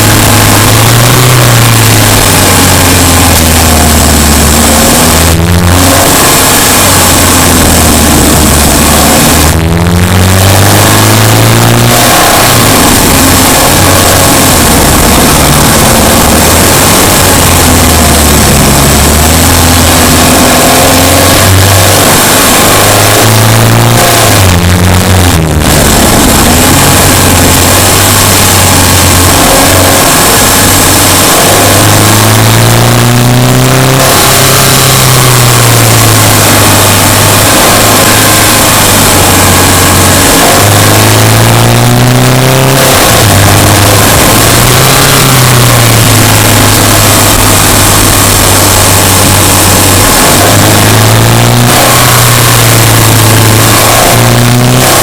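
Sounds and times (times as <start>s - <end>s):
car engine revving while driving: 0.0s - 55.0s.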